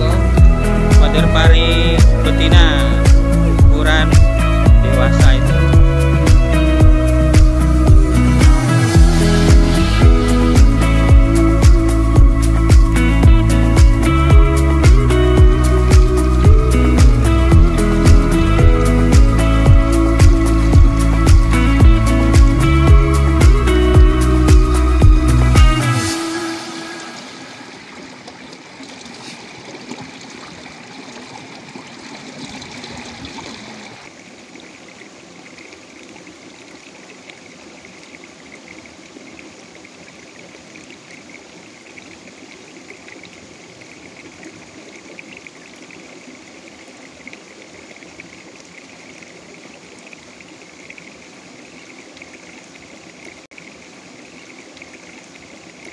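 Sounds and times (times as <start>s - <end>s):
water trickling in a stream: 0.0s - 55.9s.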